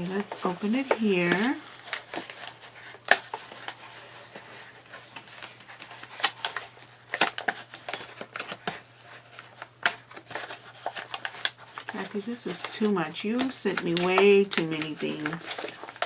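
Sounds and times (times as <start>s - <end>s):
bag crinkling and rustling: 0.0s - 16.0s.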